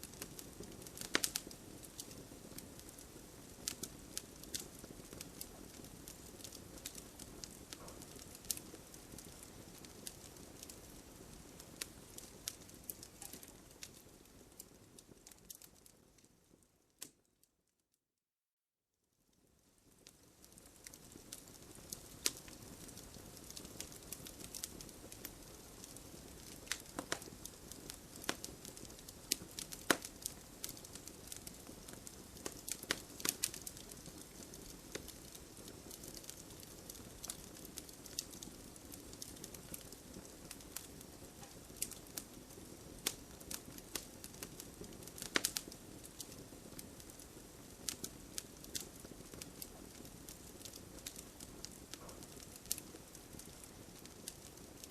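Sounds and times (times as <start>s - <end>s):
wood crackling and popping: 0.0s - 17.2s, 19.8s - 54.9s.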